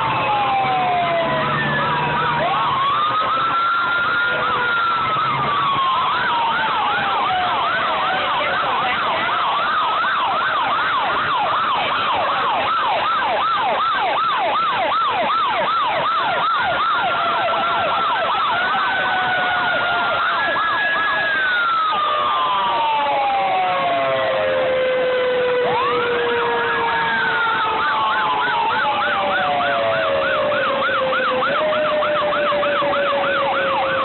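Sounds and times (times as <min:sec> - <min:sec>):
fire truck sirens: 0:00.0 - 0:34.0.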